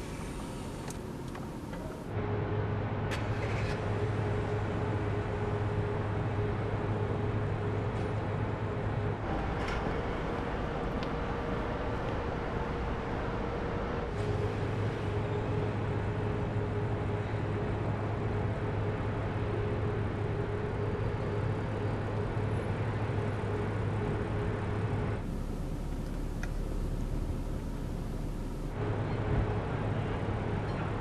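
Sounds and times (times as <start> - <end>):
car engine hum: 0.0 - 31.0.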